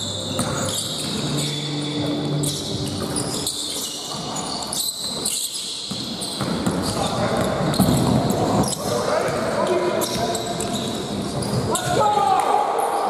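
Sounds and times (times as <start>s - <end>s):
shoes squeaking on court: 0.0s - 12.0s.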